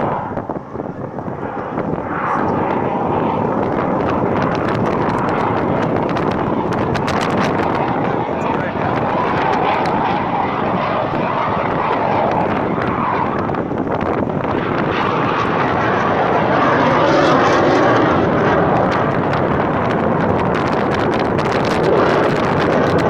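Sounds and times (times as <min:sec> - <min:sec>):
jet engine roar overhead: 0:00.0 - 0:23.0.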